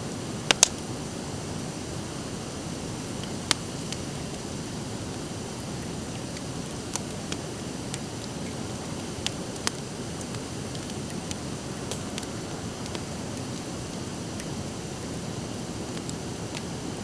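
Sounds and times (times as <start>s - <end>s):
steady rushing hiss: 0.0s - 17.0s
campfire crackling and popping: 0.2s - 17.0s.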